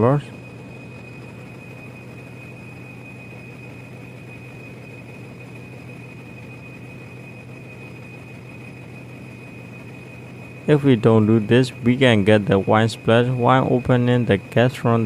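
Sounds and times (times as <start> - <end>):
generator engine droning: 0.0 - 15.0.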